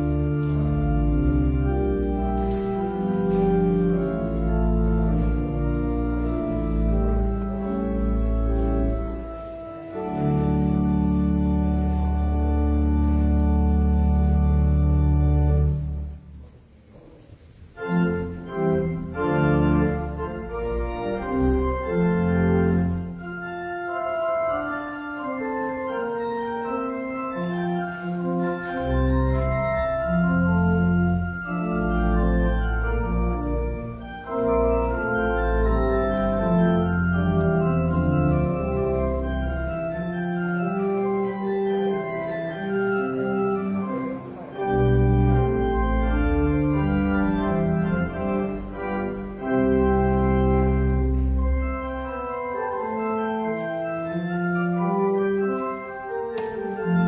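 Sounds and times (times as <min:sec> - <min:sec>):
church organ chords: 0:00.0 - 0:16.5, 0:17.6 - 0:57.0.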